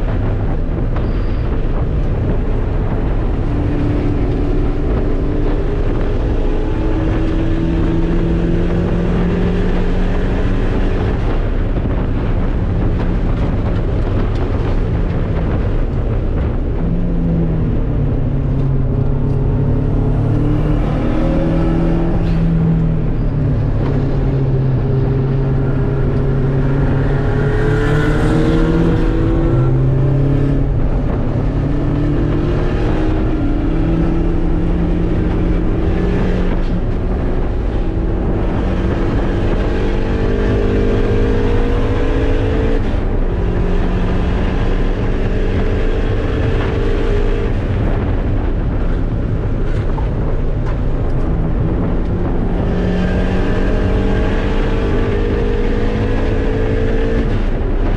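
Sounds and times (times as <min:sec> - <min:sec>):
race car engine revving: 0:00.0 - 0:57.9
wind and road noise: 0:00.0 - 0:57.9.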